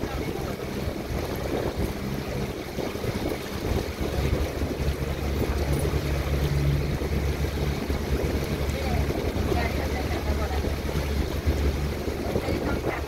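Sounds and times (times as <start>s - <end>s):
boat motor humming: 0.0s - 13.0s
water washing along hull: 0.0s - 13.0s.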